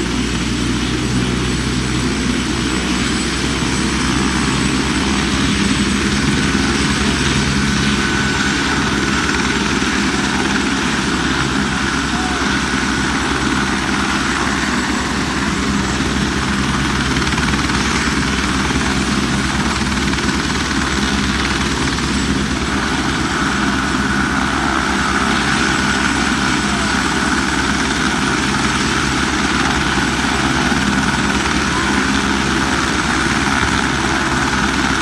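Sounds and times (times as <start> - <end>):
helicopter rotor chopping: 0.0 - 35.0
high engine whine: 0.0 - 35.0.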